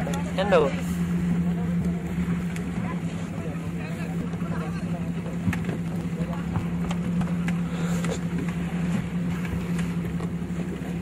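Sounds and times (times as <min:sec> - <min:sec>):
boat engine humming: 0:00.0 - 0:11.0
choppy sea water: 0:00.0 - 0:11.0.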